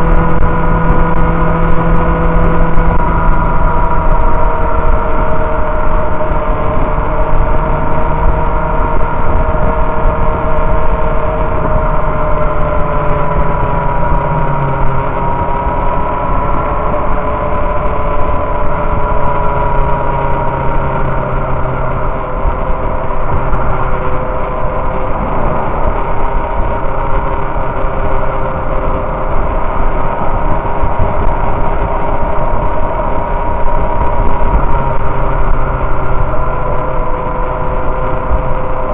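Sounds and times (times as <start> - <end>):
motorcycle engine cruising: 0.0 - 38.9
road noise: 0.0 - 38.9
wind noise on microphone: 0.0 - 38.9.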